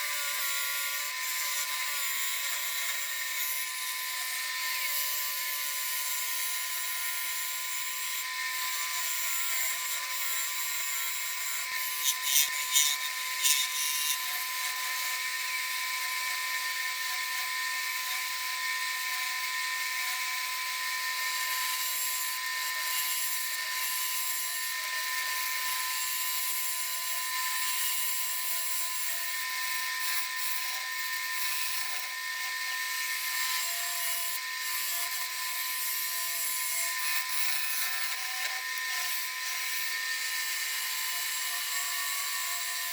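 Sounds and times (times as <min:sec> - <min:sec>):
gouge cutting wood: 0:00.0 - 0:42.9
wood lathe whine: 0:00.0 - 0:42.9.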